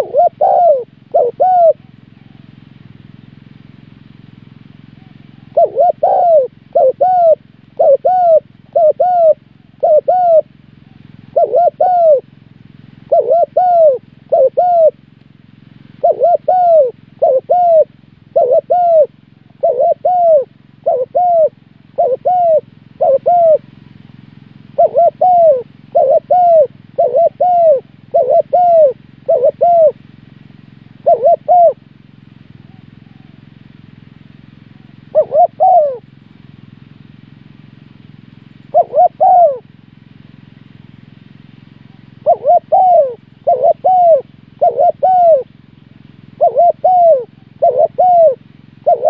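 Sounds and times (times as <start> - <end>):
dove cooing: 0.0 - 3.4, 4.8 - 23.8, 24.6 - 31.9, 32.5 - 36.2, 38.6 - 39.7, 41.8 - 49.0.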